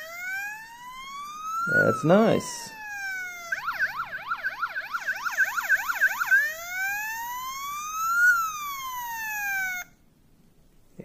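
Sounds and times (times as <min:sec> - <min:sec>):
toy electronic police siren: 0:00.0 - 0:10.0.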